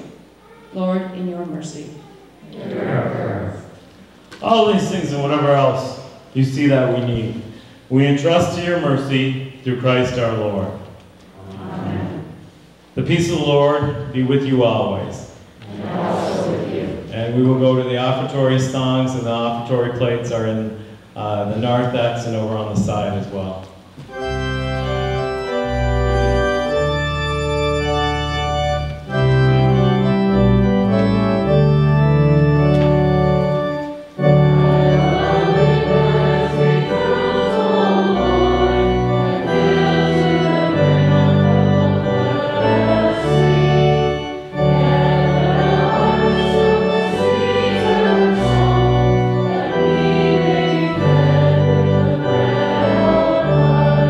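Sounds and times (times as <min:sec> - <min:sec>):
voices singing hymn: 0:02.4 - 0:10.8, 0:11.4 - 0:23.5, 0:24.1 - 0:54.0
church organ playing hymn: 0:03.6 - 0:54.0.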